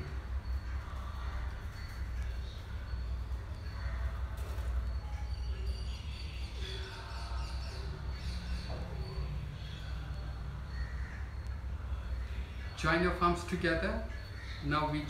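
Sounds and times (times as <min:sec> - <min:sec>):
faint bird chirps: 0:00.0 - 0:15.0
low room hum: 0:00.0 - 0:15.0.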